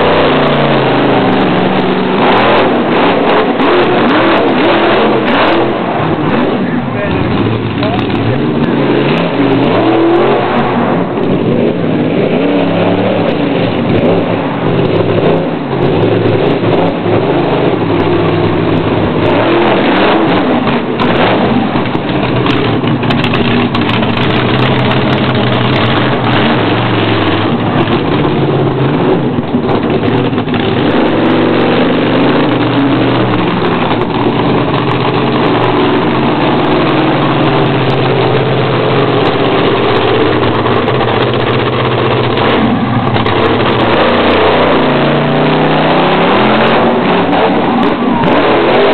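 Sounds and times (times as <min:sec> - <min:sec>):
truck engine revving hard: 0:00.0 - 0:48.9.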